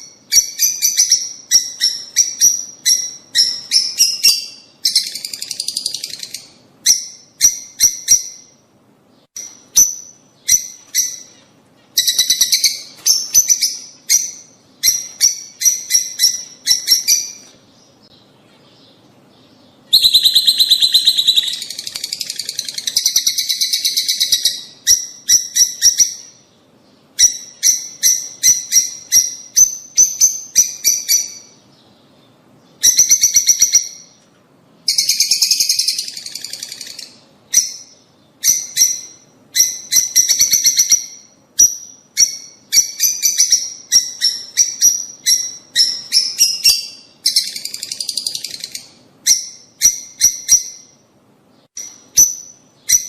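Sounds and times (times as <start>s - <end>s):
lovebirds chirping: 0.0s - 53.0s.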